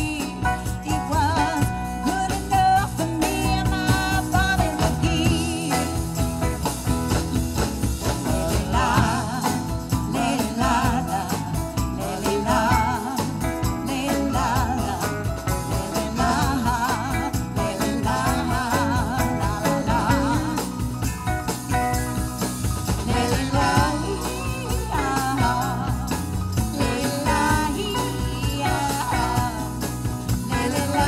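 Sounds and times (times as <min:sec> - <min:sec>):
bending lead guitar melody: 0:00.0 - 0:31.0
rock band playing: 0:00.0 - 0:31.0.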